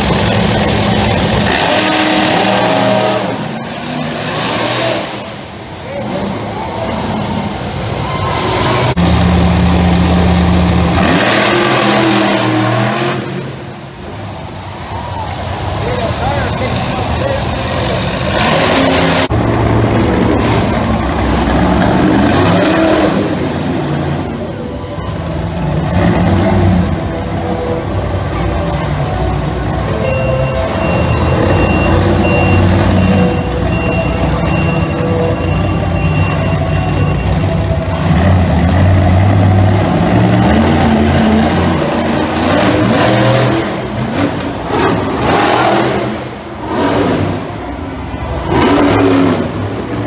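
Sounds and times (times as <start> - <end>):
monster truck engine revving: 0.0 - 50.0.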